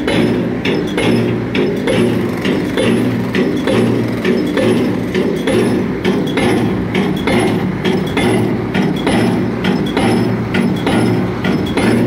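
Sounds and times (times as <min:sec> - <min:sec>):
rig engine running: 0:00.0 - 0:12.0.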